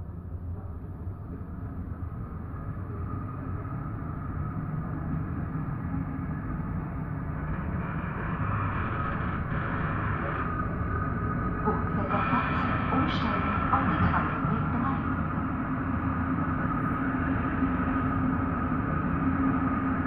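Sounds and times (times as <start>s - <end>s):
high whine: 0.0s - 20.0s
tram rumbling on rails: 0.0s - 20.0s.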